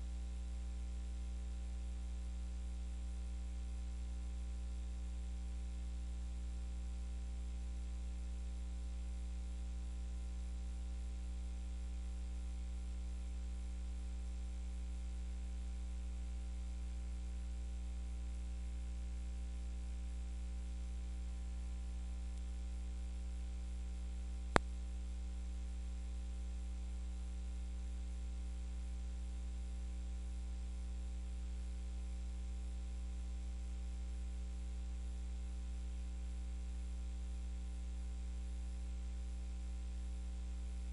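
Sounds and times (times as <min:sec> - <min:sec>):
electrical mains hum: 0:00.0 - 0:40.9.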